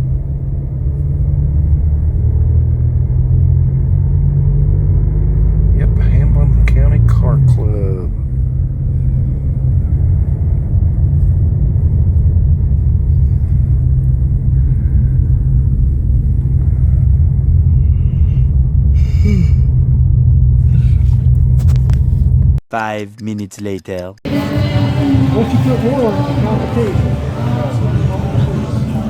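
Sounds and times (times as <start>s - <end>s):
loud steady low rumble: 0.0s - 22.6s, 24.3s - 29.0s.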